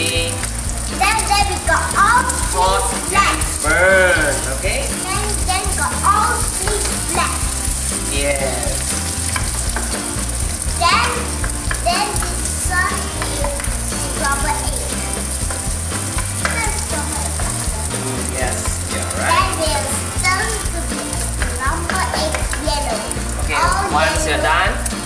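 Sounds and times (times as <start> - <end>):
egg sizzling in hot oil: 0.0 - 25.0.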